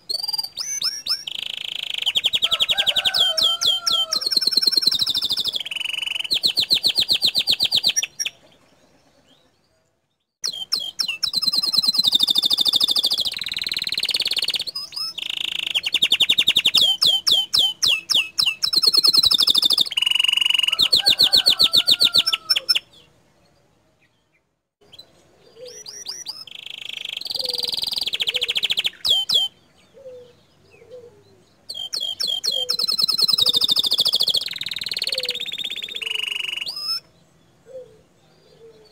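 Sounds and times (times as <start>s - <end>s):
canary singing trills: 0.0s - 9.8s, 10.4s - 38.9s.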